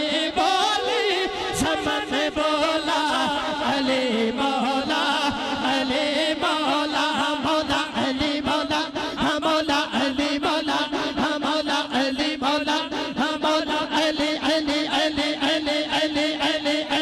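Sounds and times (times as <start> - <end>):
men chanting into microphones: 0.0 - 17.0.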